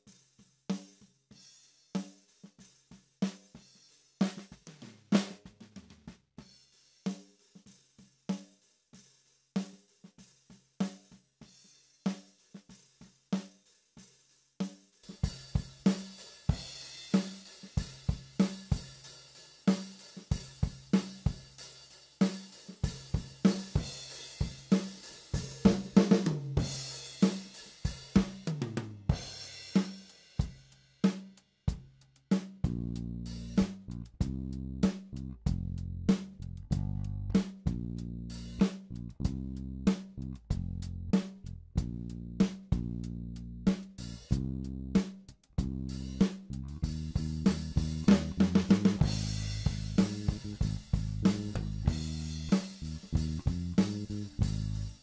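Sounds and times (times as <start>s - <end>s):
acoustic drum kit groove: 0.0s - 55.0s.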